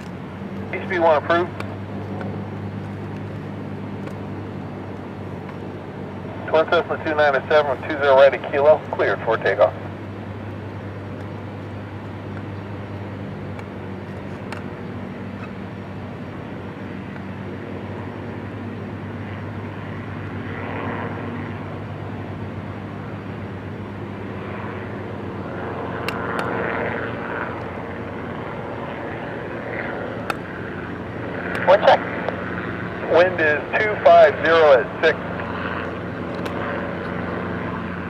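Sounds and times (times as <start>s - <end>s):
propeller plane engines droning: 0.0s - 38.0s.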